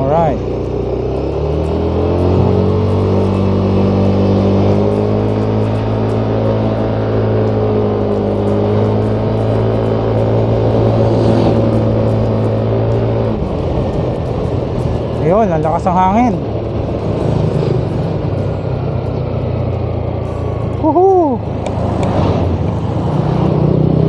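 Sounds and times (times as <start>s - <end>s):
scooter engine running: 0.0s - 24.0s.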